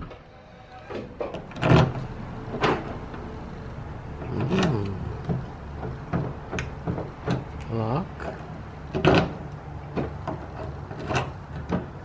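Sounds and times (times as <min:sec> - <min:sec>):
door lock clicks and clunks: 0:00.9 - 0:03.2, 0:04.4 - 0:12.0.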